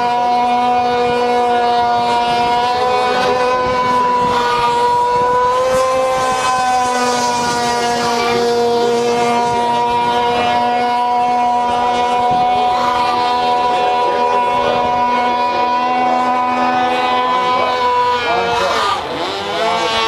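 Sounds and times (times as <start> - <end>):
model boat engine running: 0.0 - 20.0.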